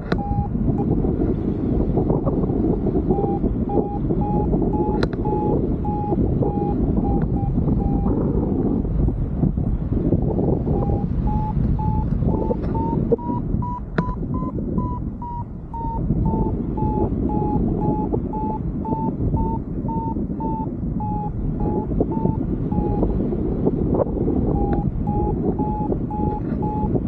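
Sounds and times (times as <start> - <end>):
variometer beeping: 0.0 - 1.5, 2.1 - 8.6, 10.4 - 27.0
wind rushing over microphone: 0.0 - 27.0.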